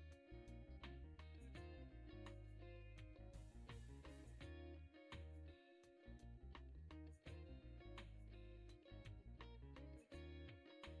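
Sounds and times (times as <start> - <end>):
quiet music with bass and beat: 0.0 - 11.0.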